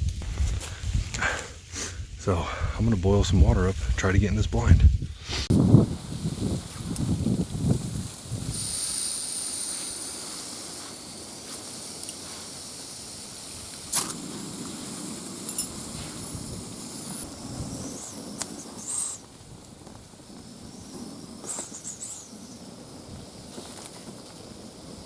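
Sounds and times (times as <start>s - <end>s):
stove burner hissing: 0.0s - 25.0s.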